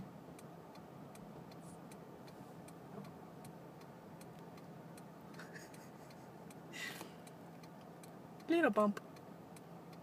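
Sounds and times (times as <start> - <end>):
hazard light flasher ticking: 0.3 - 10.0.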